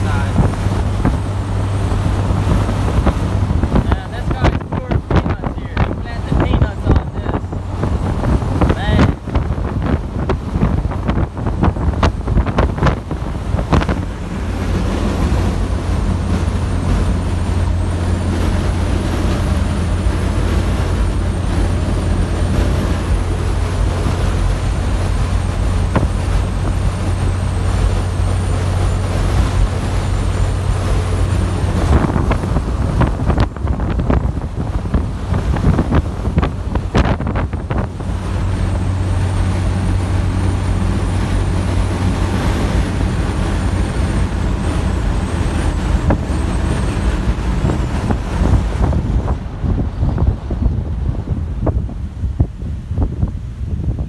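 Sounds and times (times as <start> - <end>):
rushing noise: 0.0 - 54.0
truck engine and road drone: 0.0 - 54.0.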